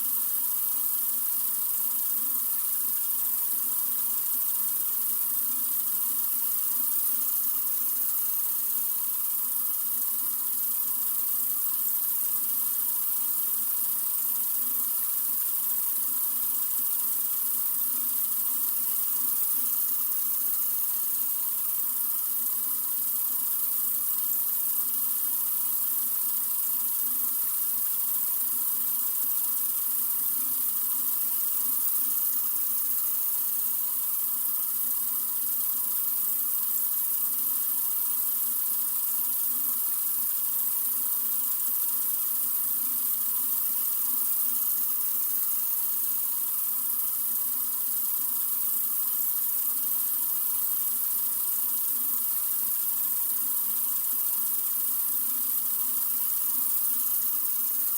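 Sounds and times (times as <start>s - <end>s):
sink faucet running: 0.0s - 57.9s.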